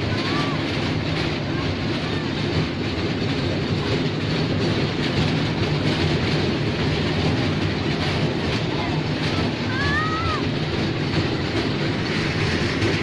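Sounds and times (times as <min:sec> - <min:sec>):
mini train low drone: 0:00.0 - 0:13.0.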